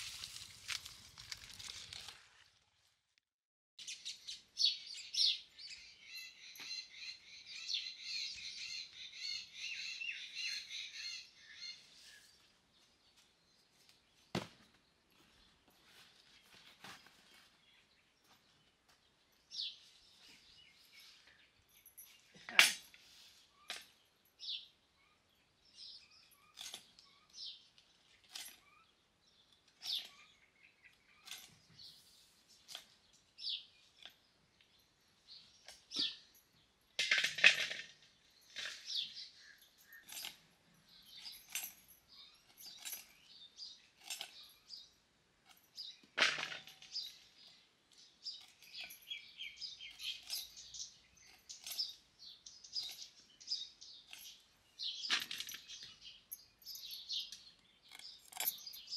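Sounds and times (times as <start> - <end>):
birds chirping: 3.8 - 37.0, 37.6 - 58.9.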